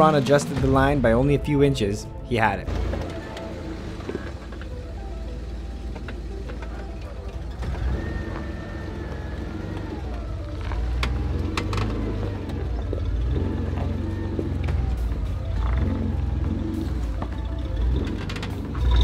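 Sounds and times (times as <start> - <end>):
truck engine at low revs: 0.0 - 19.0.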